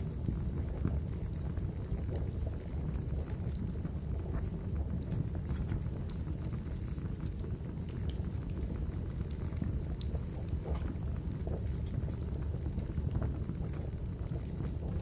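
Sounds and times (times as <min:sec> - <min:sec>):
low rumble of fire: 0:00.0 - 0:15.0.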